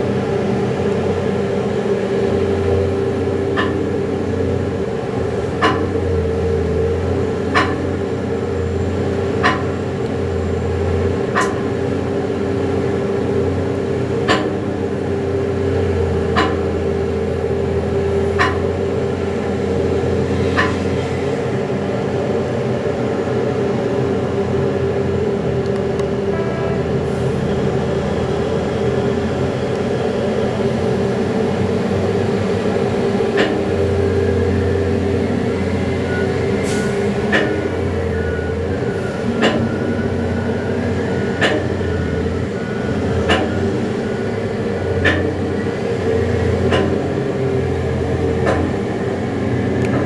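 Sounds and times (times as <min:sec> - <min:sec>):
excavator diesel engine droning: 0:00.0 - 0:50.0.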